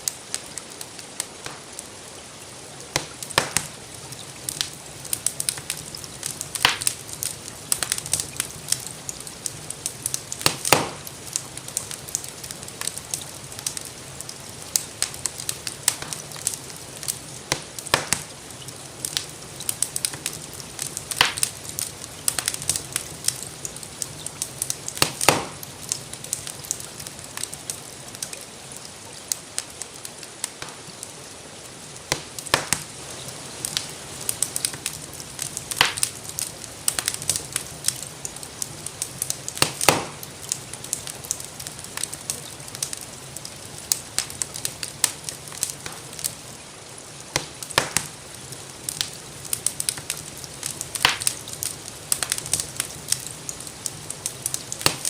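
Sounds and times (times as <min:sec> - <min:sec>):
gentle rain hiss: 0:00.0 - 0:55.0
wood fire crackling: 0:00.0 - 0:55.0.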